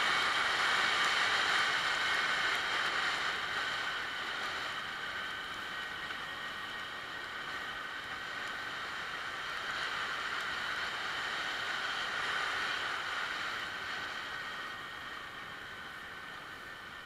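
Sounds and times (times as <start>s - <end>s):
scooter two-stroke engine running: 0.0s - 17.0s
wind and road noise: 0.0s - 17.0s.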